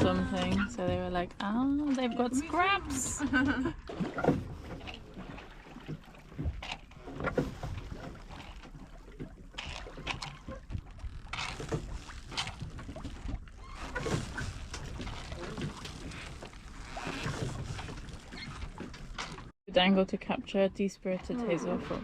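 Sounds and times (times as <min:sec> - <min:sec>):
water slapping against hull: 0:00.0 - 0:19.6.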